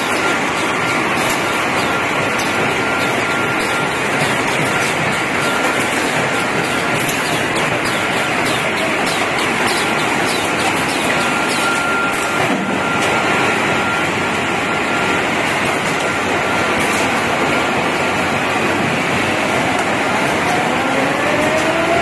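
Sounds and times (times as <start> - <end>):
machine running: 0.0 - 22.0.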